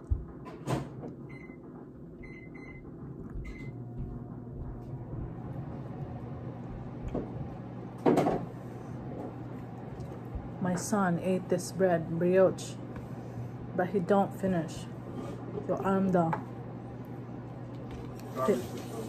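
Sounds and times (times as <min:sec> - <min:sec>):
microwave humming: 0:00.0 - 0:19.0.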